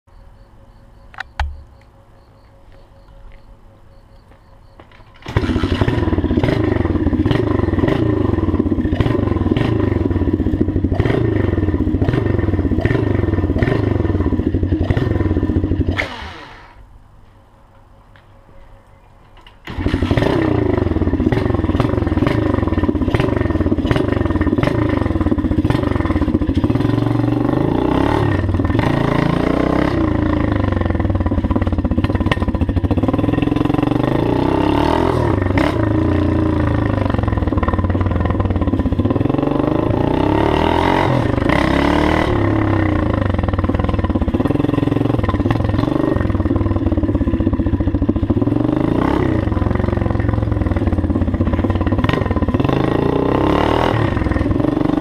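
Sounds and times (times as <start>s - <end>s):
motorbike engine revving: 4.9s - 16.9s, 19.6s - 55.0s.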